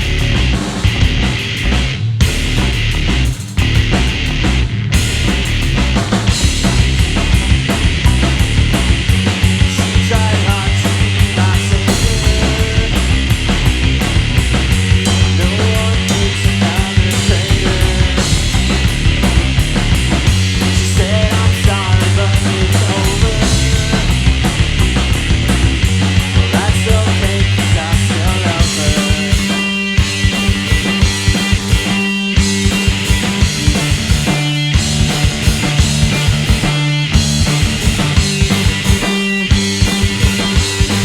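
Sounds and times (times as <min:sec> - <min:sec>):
bass guitar: 0:00.0 - 0:41.0
drum kit: 0:00.0 - 0:41.0
electric guitar: 0:00.0 - 0:41.0.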